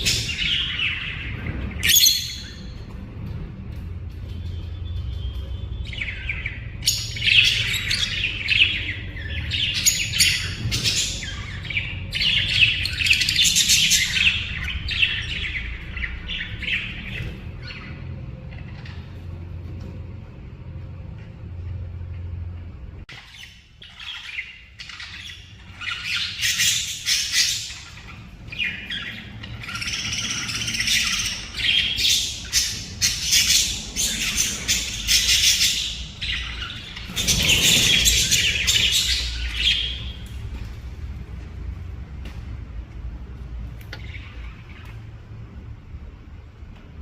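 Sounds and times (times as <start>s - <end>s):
lovebirds chattering and screeching: 0.0s - 3.4s, 4.2s - 20.0s, 23.0s - 40.8s, 43.6s - 46.4s.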